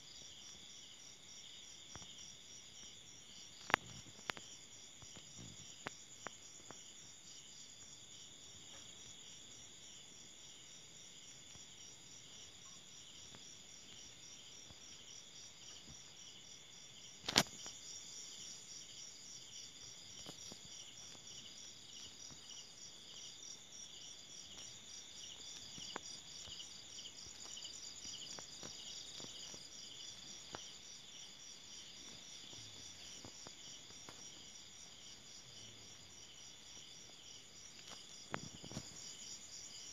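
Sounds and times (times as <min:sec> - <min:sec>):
crickets and insects trilling: 0:00.1 - 0:39.9.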